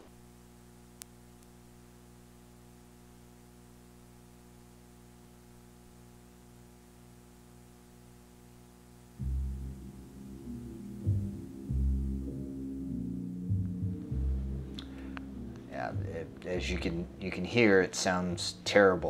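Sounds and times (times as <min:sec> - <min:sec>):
amplifier mains hum: 0:00.0 - 0:19.0.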